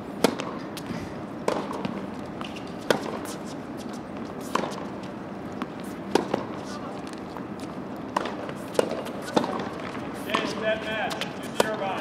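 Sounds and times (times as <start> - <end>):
racquets striking tennis ball: 0.2 - 12.0.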